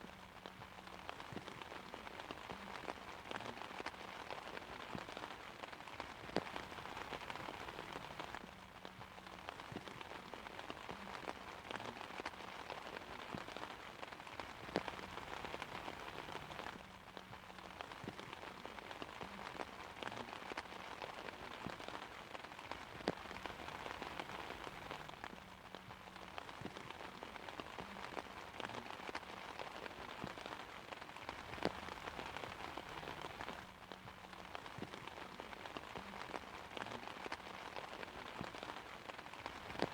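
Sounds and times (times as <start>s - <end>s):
rain falling on an umbrella: 0.0s - 39.9s.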